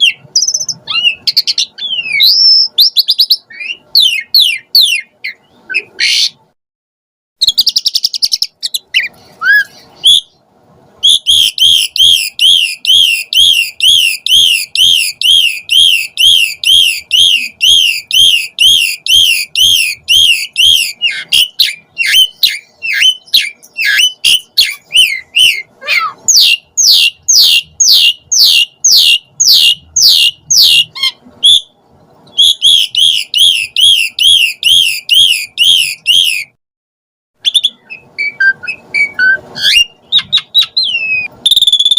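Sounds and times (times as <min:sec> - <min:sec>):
starling singing whistled notes: 0:00.0 - 0:06.4, 0:07.4 - 0:10.4, 0:11.0 - 0:36.6, 0:37.4 - 0:41.9.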